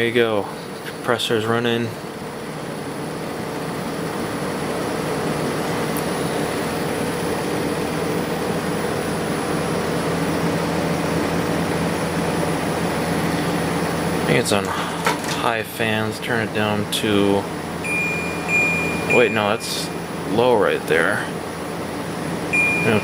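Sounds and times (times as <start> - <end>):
air conditioner fan blowing: 0.0 - 23.0
compressor low hum: 0.0 - 23.0.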